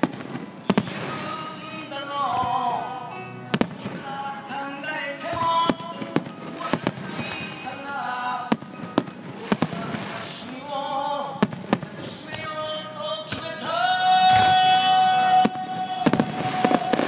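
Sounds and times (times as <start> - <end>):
fireworks booming: 0.0 - 17.0
song playing: 0.0 - 17.0.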